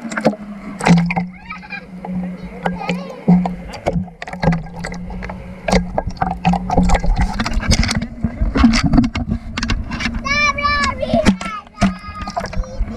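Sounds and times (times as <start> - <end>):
low steady hum: 0.0 - 12.9
water splashing and sloshing: 0.0 - 12.9.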